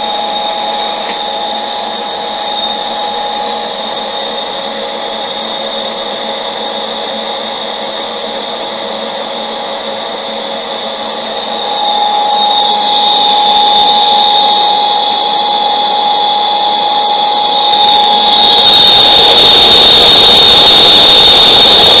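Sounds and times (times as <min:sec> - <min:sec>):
milling machine whine: 0:00.0 - 0:22.0.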